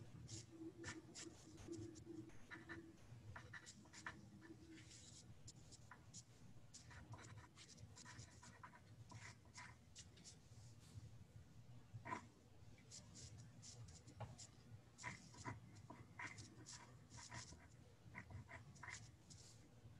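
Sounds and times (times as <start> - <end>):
pen scratching on paper: 0.3 - 10.4, 12.9 - 19.5.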